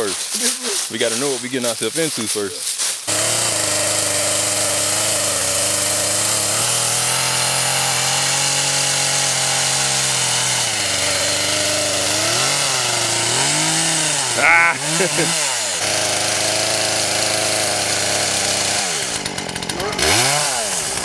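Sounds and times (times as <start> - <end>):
chainsaw cutting a log: 3.0 - 21.0.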